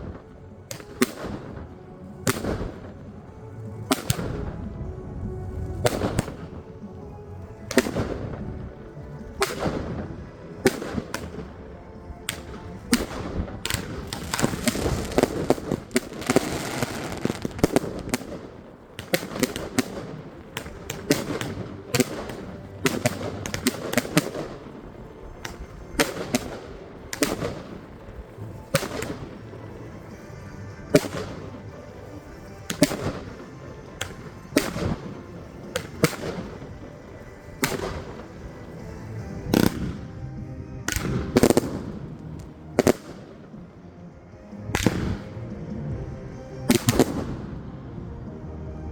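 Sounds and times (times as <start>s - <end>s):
firework bangs: 0.0s - 47.8s
firework crackling: 0.0s - 48.2s.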